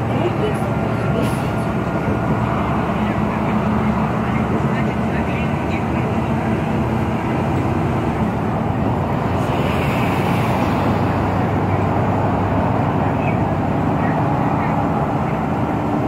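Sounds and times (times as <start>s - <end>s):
vehicle road and engine noise: 0.0s - 16.0s.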